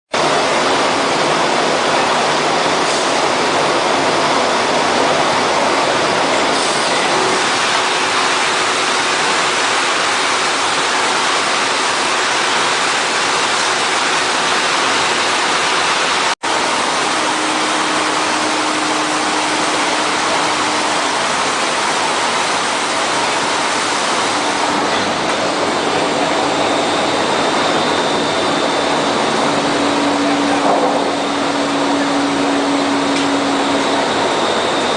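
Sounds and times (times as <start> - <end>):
furnace line rushing noise: 0.1 - 34.9.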